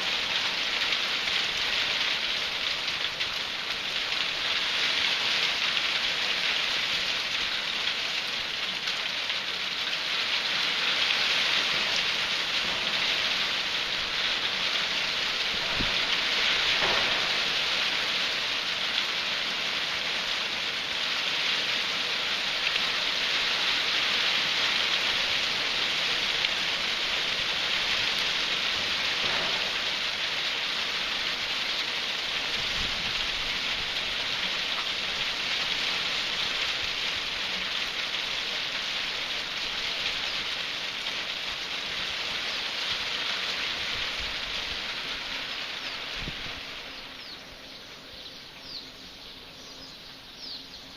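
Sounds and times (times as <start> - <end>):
hail and rain falling: 0.0 - 48.2.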